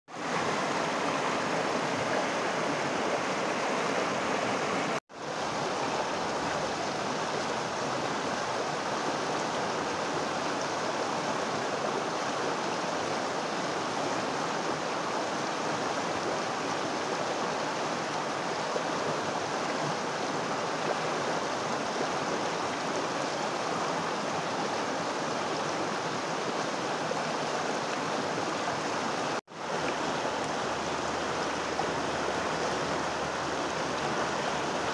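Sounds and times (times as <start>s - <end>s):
stream rushing and babbling: 0.1s - 34.9s.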